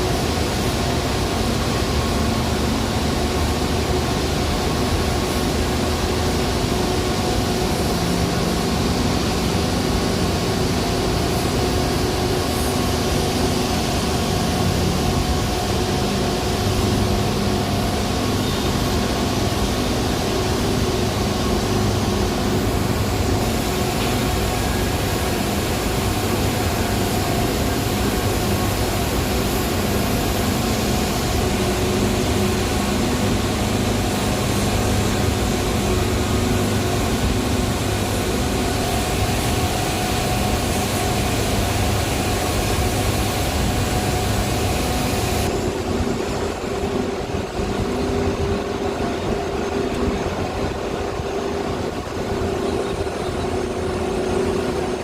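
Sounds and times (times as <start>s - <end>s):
machinery roaring and humming: 0.0s - 55.0s.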